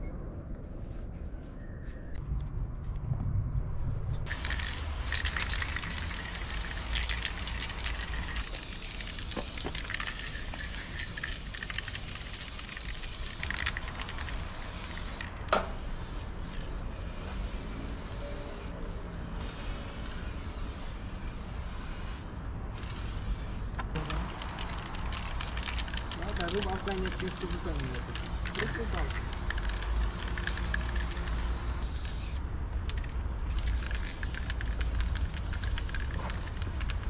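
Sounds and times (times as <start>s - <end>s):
spray paint can hissing: 4.3s - 18.7s, 19.4s - 37.0s.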